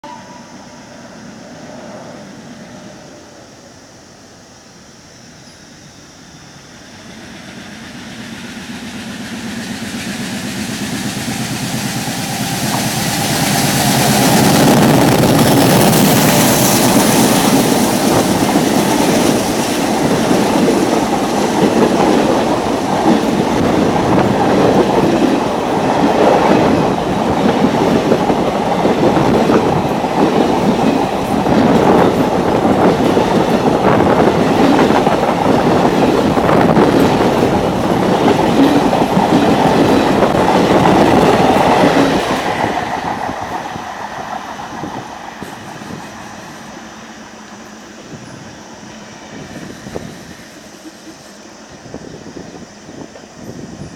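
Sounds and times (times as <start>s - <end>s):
diesel train passing: 0.0s - 53.9s.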